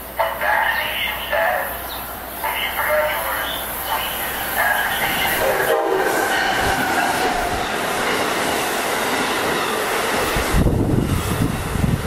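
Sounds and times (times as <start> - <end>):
passenger train passing at speed: 0.0 - 12.0.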